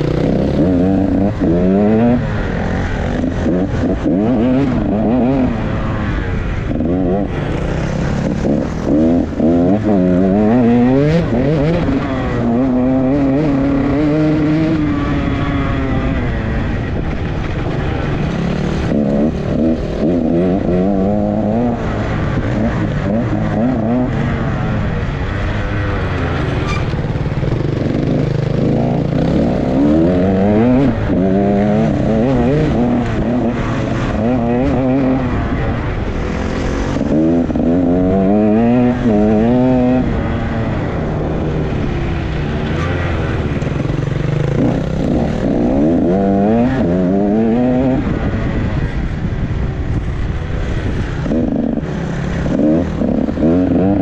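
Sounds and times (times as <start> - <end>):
dirt bike engine revving: 0.0 - 49.3, 50.0 - 54.0.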